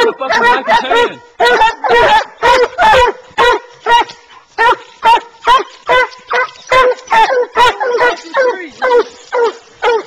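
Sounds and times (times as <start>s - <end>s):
hounds barking: 0.0s - 10.0s.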